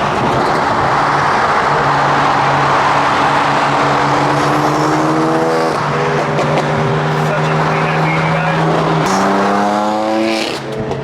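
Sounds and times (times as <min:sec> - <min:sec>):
car engine cruising: 0:00.0 - 0:11.0
road and tyre noise: 0:00.0 - 0:11.0.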